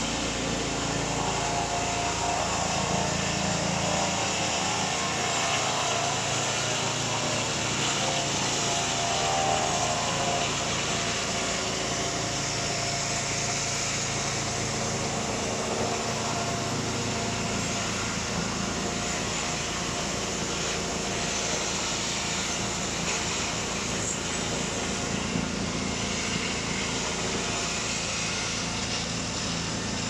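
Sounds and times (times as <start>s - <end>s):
circular saw machine drone: 0.0s - 30.0s.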